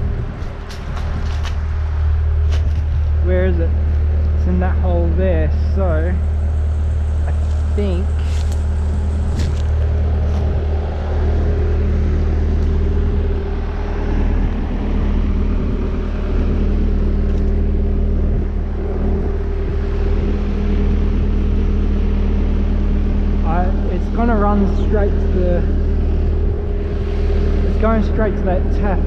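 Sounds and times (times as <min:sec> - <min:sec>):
diesel engine low drone: 0:00.0 - 0:29.0
steady hum: 0:00.0 - 0:29.0.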